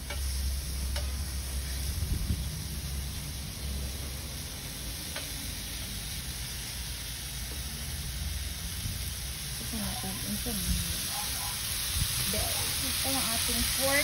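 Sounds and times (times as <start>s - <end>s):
pork sizzling on a grill pan: 0.0s - 14.0s.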